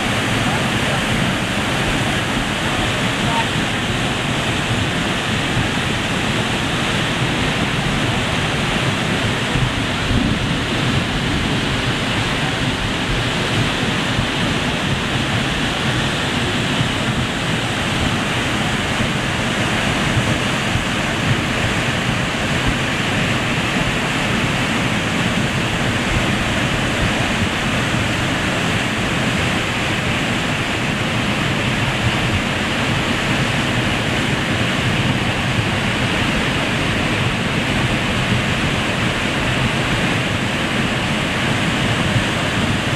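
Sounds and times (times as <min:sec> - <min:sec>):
floodwater rushing: 0:00.0 - 0:42.9.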